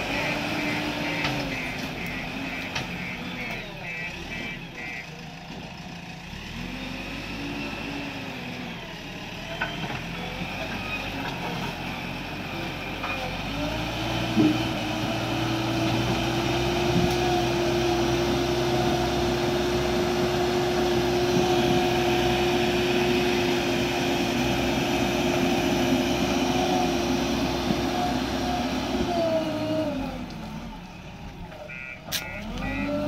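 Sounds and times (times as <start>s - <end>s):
diesel engine revving: 0.0s - 33.0s.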